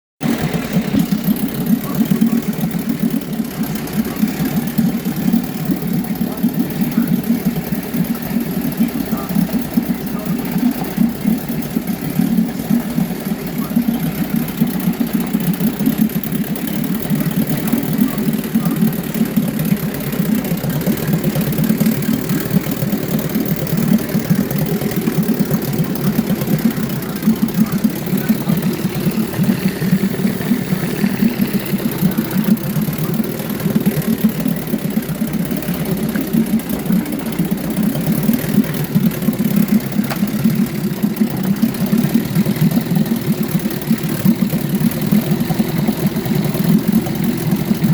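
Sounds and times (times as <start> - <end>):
outboard motor idling: 0.2 - 47.9.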